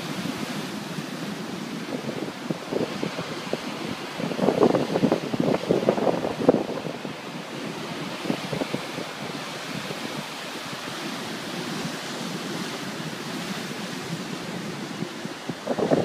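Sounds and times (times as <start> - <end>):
heavy surf breaking: 0.0 - 16.0
wind buffeting microphone: 0.0 - 16.0.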